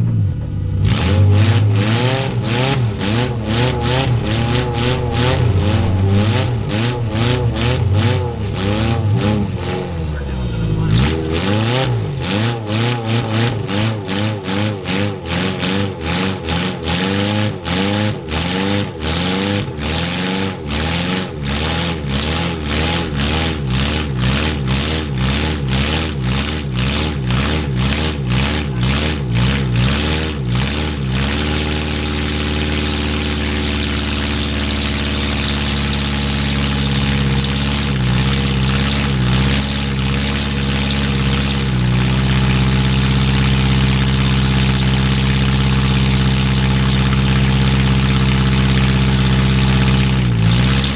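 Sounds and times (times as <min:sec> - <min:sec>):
van engine revving: 0:00.0 - 0:50.9.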